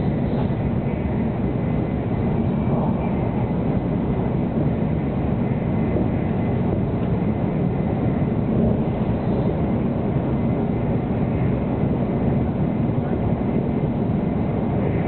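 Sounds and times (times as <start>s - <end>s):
train running noise inside car: 0.0s - 15.0s.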